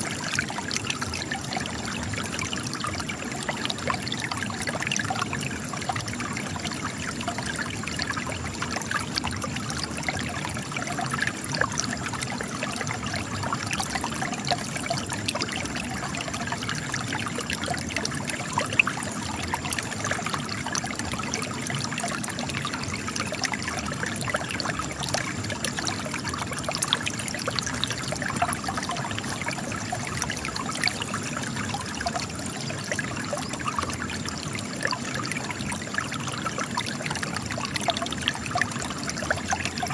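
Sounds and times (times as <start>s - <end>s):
water trickling over rock: 0.0s - 39.9s.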